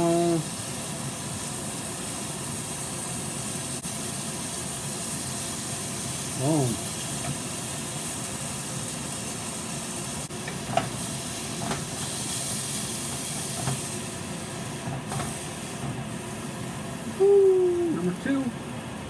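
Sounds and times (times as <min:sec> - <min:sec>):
burgers sizzling in a frying pan: 0:00.0 - 0:19.0.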